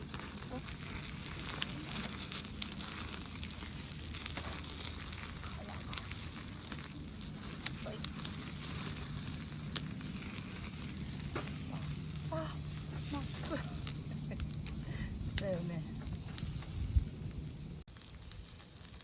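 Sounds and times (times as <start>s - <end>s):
wood campfire crackling: 0.0s - 19.0s.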